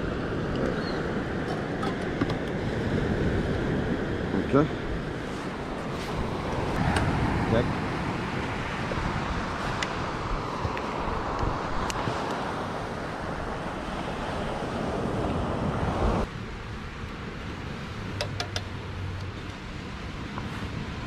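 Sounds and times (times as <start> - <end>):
surf on a beach: 0.0 - 21.0
wind buffeting microphone: 0.0 - 21.0.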